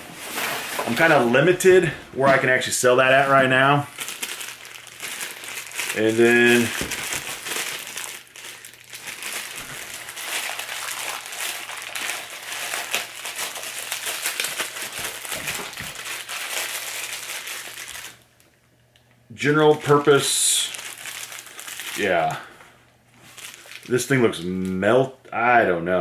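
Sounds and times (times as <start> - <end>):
plastic bag crinkling: 0.1 - 1.8, 2.4 - 18.5, 19.6 - 22.5, 23.1 - 24.8.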